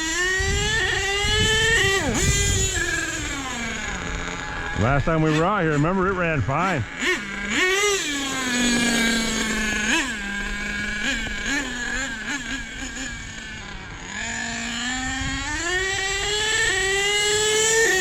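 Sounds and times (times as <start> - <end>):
rc truck engine buzzing: 0.0 - 18.0.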